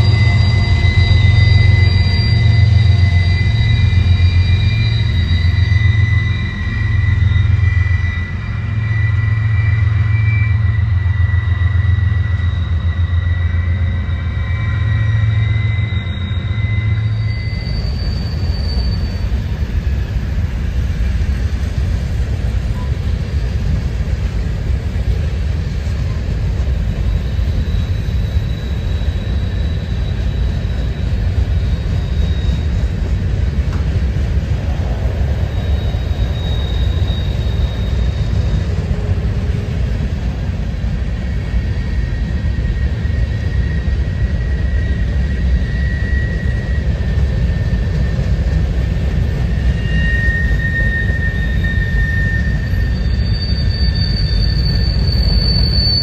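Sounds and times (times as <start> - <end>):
freight train rolling past: 0.0 - 56.0
high wheel squeal: 0.0 - 56.0.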